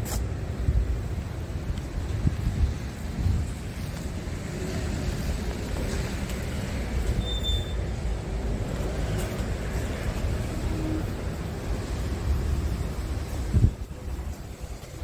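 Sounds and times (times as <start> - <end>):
wind buffeting microphone: 0.3 - 7.1, 7.9 - 15.0.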